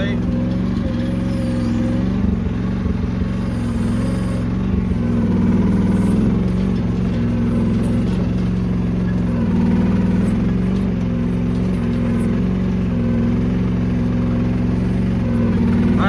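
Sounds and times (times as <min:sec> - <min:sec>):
mini excavator engine running: 0:00.0 - 0:16.0.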